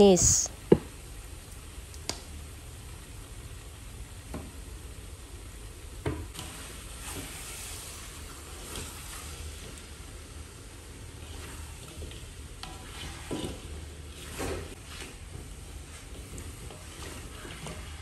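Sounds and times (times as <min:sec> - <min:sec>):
chicken sizzling in a wok: 0:00.0 - 0:18.0.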